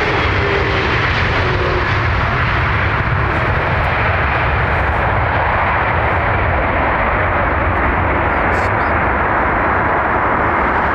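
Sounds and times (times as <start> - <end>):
jet engines roaring: 0.0 - 10.9.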